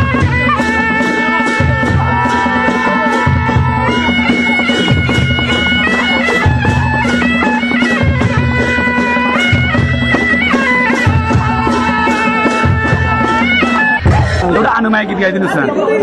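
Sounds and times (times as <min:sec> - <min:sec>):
drum and cymbal beat: 0:00.0 - 0:15.0
reed pipe melody: 0:00.0 - 0:15.9.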